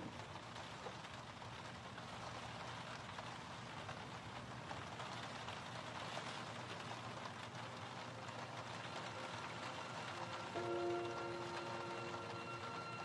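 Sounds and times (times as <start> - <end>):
rain falling on a window: 0.0 - 13.0.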